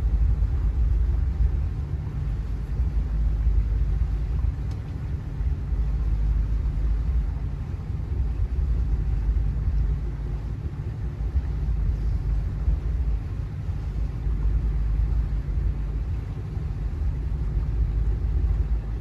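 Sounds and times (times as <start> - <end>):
boat engine drone: 0.0 - 19.0
water noise: 0.0 - 19.0
wind: 0.0 - 19.0.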